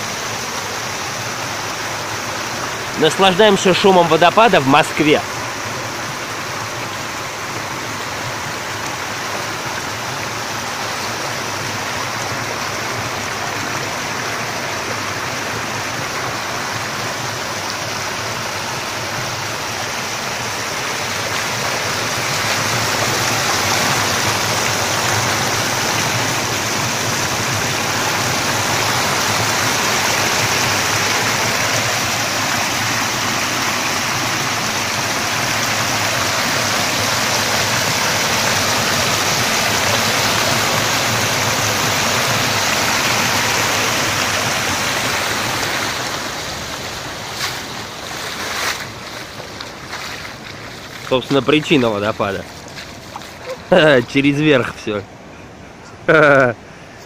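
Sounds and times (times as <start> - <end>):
water rushing over weir: 0.0 - 57.0.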